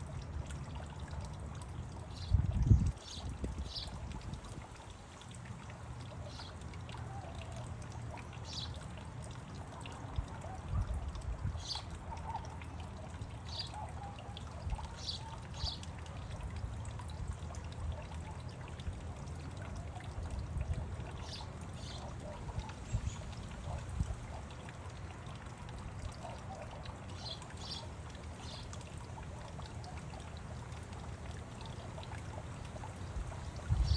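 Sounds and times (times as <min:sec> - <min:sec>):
fountain water bubbling and trickling: 0:00.0 - 0:33.9.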